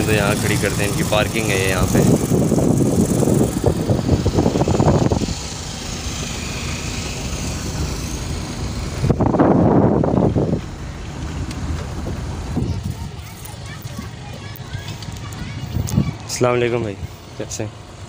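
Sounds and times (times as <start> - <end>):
car engine: 0.0 - 18.0
rumbling road noise: 0.0 - 18.0.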